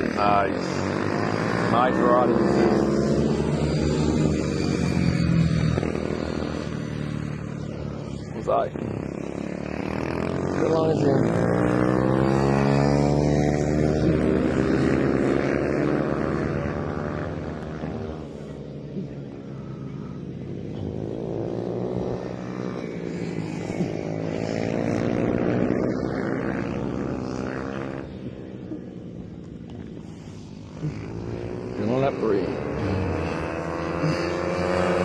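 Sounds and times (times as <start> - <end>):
motorcycles racing past: 0.0 - 35.0.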